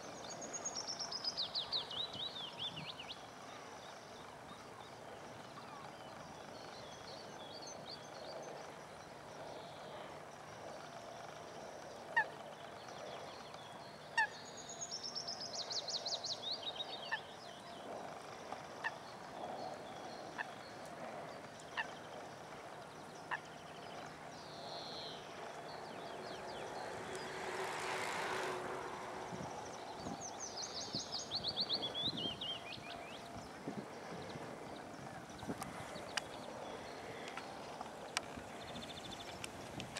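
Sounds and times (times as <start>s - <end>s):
songbird trill: 0.0s - 39.9s.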